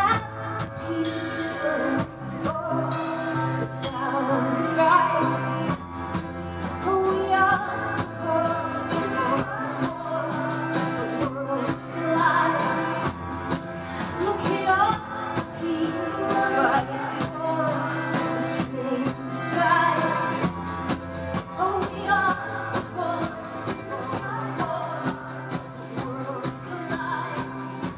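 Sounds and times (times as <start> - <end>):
person singing: 0.0 - 5.7, 6.8 - 13.1, 13.8 - 20.6, 21.6 - 27.9
drums beating: 0.0 - 27.9
live pop band playing: 0.0 - 27.9.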